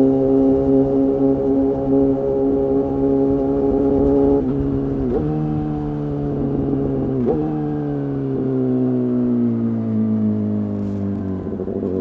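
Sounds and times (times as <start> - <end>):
motorcycle engine while riding: 0.0 - 12.0.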